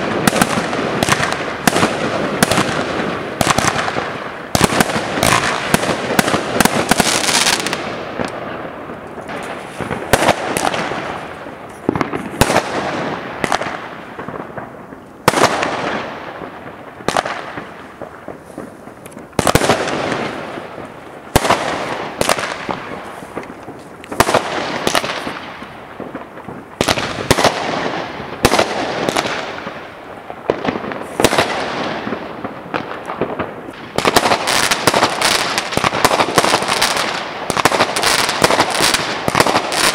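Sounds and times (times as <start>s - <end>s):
aerial fireworks banging: 0.0s - 39.9s.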